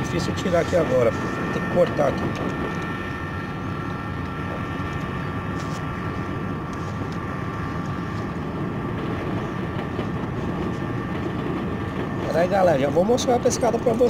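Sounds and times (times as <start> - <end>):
engine-like rumble: 0.0 - 14.0
faint whine: 0.0 - 14.0.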